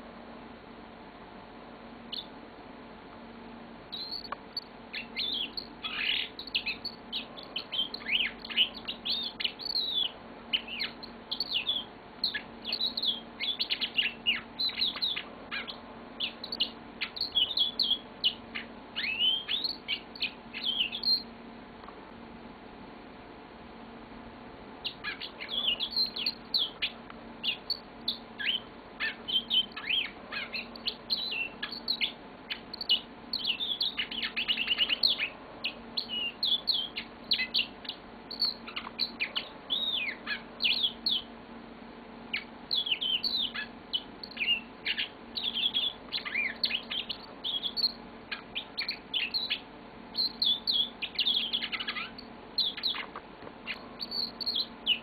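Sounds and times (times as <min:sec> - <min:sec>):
canary singing: 0:02.0 - 0:02.4, 0:03.9 - 0:21.3, 0:24.8 - 0:41.4, 0:42.2 - 0:55.0.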